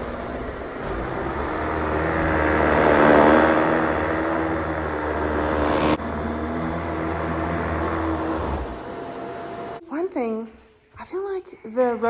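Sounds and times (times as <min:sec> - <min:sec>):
vacuum cleaner running: 0:00.0 - 0:09.8.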